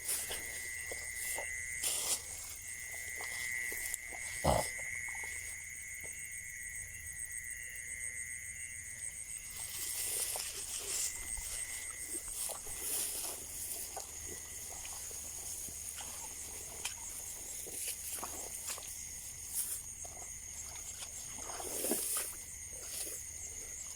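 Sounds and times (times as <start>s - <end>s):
frogs trilling: 0.0s - 23.9s
insects buzzing: 0.0s - 23.9s.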